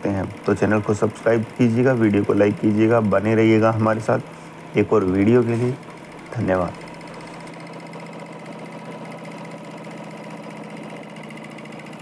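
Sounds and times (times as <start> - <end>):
embroidery machine needle stitching: 0.0 - 12.0
motor hum: 0.0 - 12.0.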